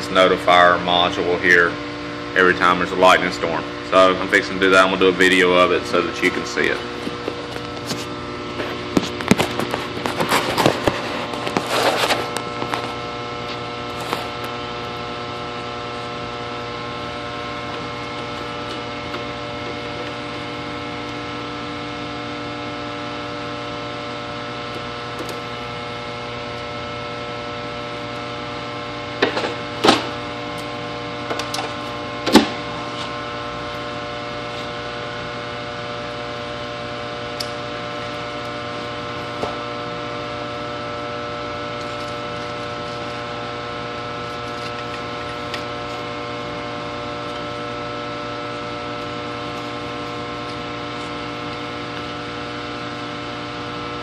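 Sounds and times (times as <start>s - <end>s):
electrical hum: 0.0s - 54.0s.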